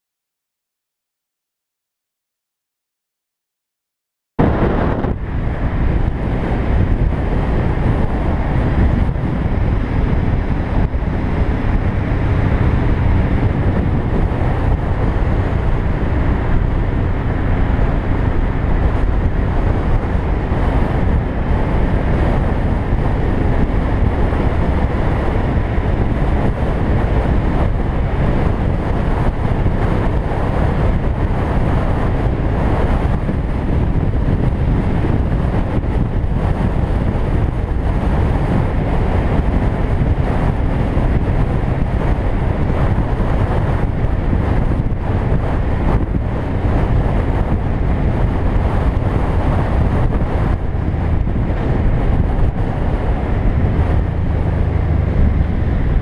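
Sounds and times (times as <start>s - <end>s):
motorcycle engine: 4.4s - 56.0s
wind rushing on microphone: 4.4s - 56.0s.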